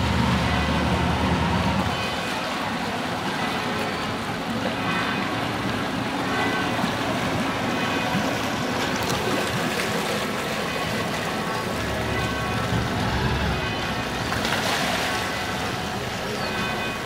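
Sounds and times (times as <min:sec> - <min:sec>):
boat motor running: 0:00.0 - 0:17.0
propeller churning water: 0:00.0 - 0:17.0.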